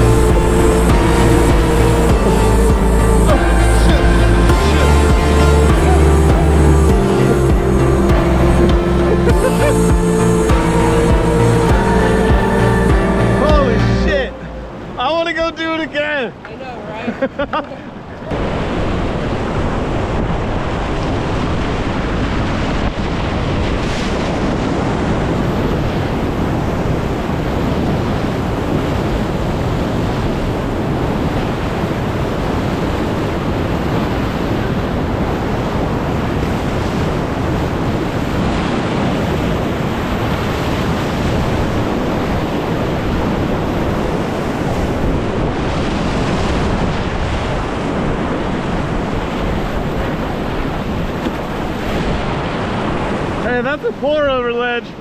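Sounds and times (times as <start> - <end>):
whitewater rapids rushing: 0.0 - 17.2, 17.8 - 55.0
wind buffeting microphone: 0.0 - 55.0.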